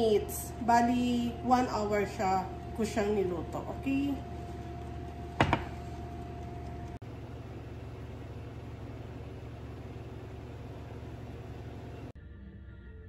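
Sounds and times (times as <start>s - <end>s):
kitchen appliance humming: 0.0s - 12.2s.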